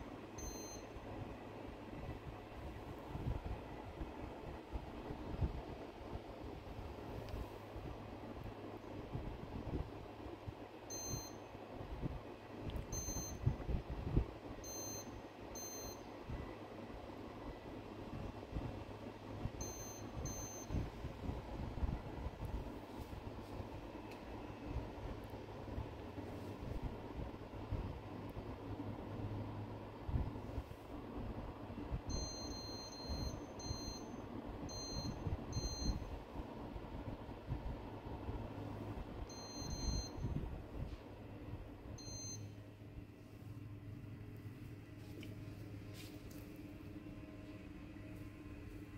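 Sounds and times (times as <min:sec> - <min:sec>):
air conditioner beeping: 0:00.0 - 0:48.9
steady low hum: 0:00.0 - 0:48.9.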